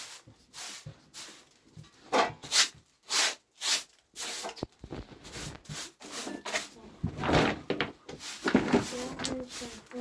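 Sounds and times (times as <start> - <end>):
rubbing on a hard surface: 0.0 - 7.3, 8.0 - 10.0.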